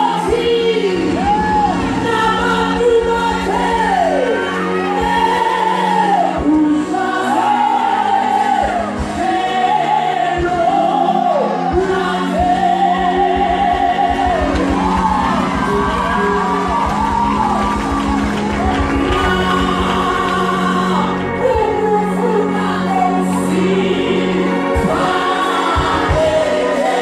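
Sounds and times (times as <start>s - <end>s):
gospel singing: 0.0s - 27.0s.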